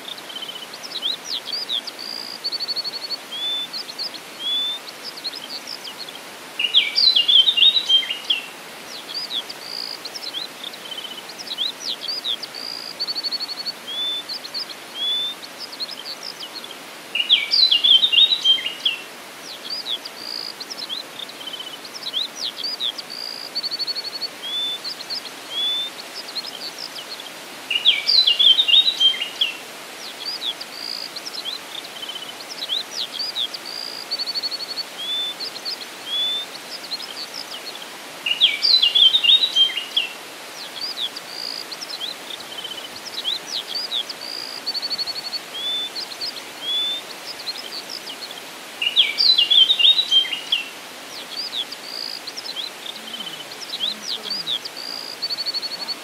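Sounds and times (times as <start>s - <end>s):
songbirds singing: 0.0s - 56.0s
steady background hiss: 0.0s - 56.0s.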